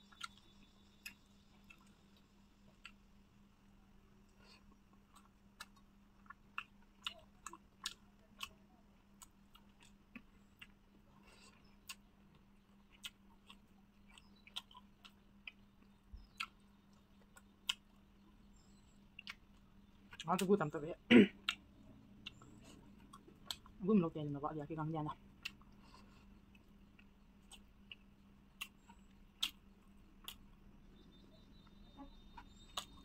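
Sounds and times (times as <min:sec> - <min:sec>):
faint steady hum: 0:00.0 - 0:33.0
wet chewing mouth sounds: 0:00.1 - 0:03.0, 0:04.3 - 0:08.6, 0:09.2 - 0:20.6, 0:21.3 - 0:23.8, 0:25.3 - 0:30.7, 0:31.7 - 0:33.0.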